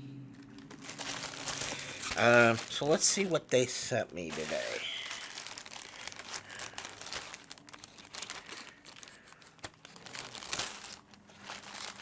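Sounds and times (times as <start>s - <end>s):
packaging crinkling: 0.4s - 12.0s
packaging tearing: 0.4s - 12.0s.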